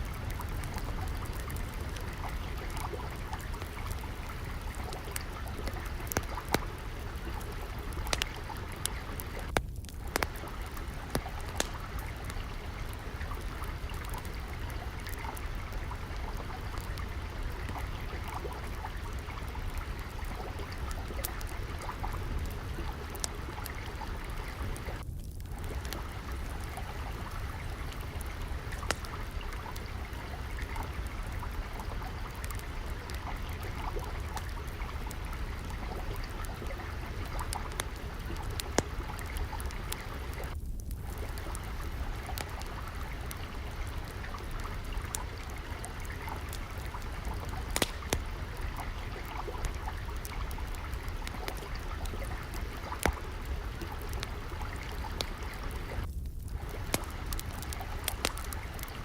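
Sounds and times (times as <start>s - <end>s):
water flowing: 0.0s - 59.0s
wood fire crackling: 0.0s - 59.0s.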